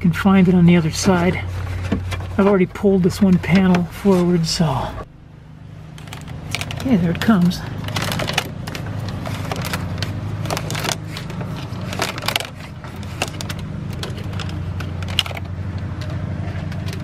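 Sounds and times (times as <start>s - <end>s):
steady low hum: 0.0s - 17.0s
rustling and clicking of cable and panel: 1.0s - 4.4s, 5.9s - 17.0s.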